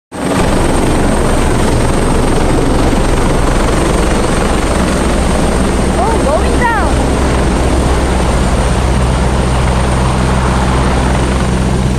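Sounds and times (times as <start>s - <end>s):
helicopter rotor and engine: 0.1s - 11.9s.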